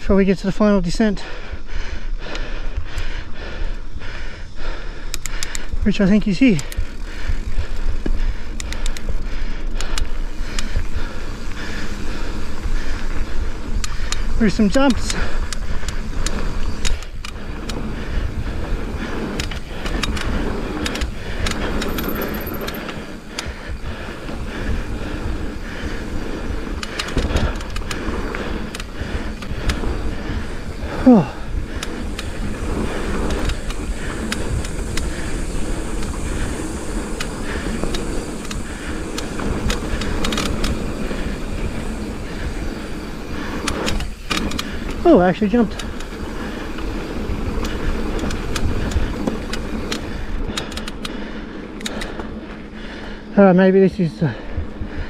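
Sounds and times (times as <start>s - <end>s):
bike clicks and rattles: 0.0s - 55.0s
wind and tyre rumble: 0.0s - 55.0s.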